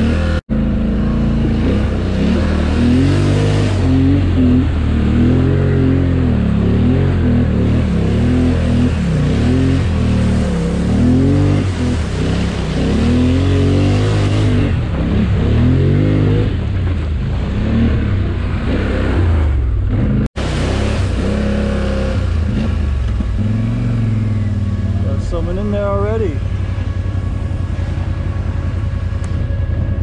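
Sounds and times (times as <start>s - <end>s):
atv engine revving: 0.0s - 30.0s
mud and water splashing: 0.0s - 30.0s.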